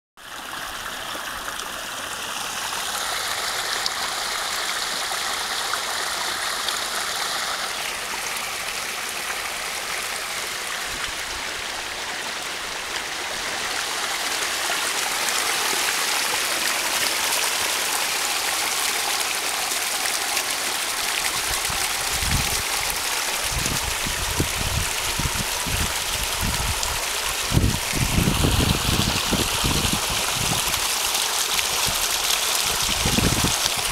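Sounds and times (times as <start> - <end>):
rushing water: 0.2 - 33.9.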